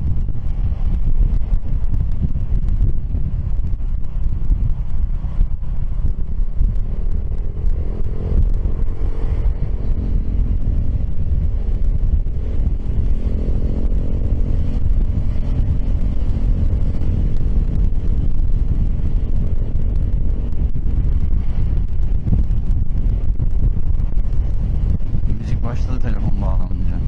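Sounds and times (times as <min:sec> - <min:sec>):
scooter engine running: 0:00.0 - 0:25.3
wind rumble on microphone: 0:00.0 - 0:27.0.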